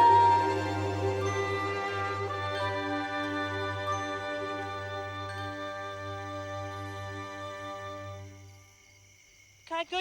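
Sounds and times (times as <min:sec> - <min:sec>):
soft background music chords: 0:00.0 - 0:08.7.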